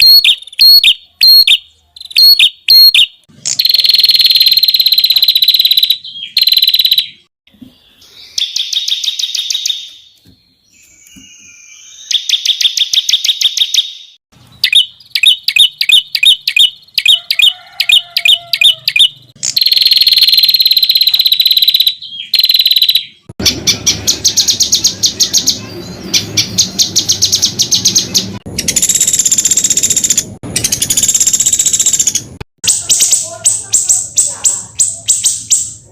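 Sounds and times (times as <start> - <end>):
songbirds singing buzzy trills: 0.0 - 35.9.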